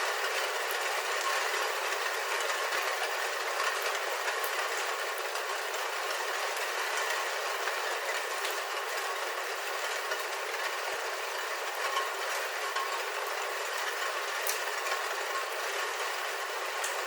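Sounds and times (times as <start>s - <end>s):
rain on a roof: 0.0s - 17.0s.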